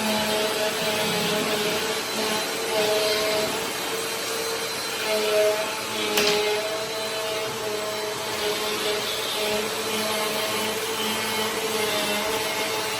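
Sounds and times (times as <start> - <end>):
vacuum cleaner running: 0.0 - 12.9.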